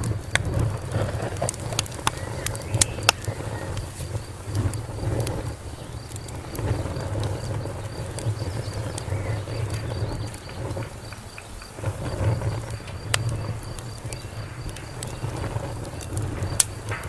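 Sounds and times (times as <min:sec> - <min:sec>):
cricket chirping: 0:00.0 - 0:17.0
wood fire crackling: 0:00.0 - 0:17.0.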